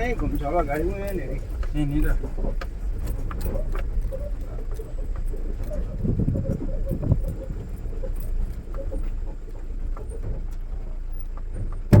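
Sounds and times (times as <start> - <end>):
diesel engine running at low speed: 0.0 - 12.0
small rattles and knocks: 0.0 - 12.0.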